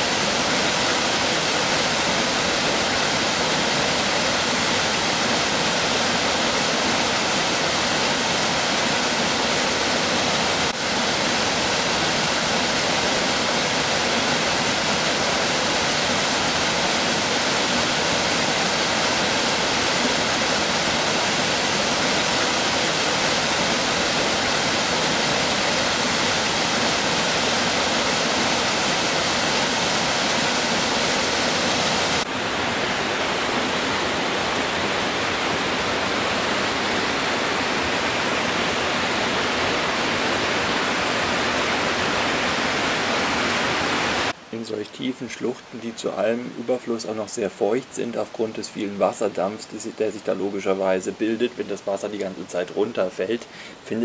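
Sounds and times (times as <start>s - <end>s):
waterfall and stream rushing over rocks: 0.0s - 54.0s.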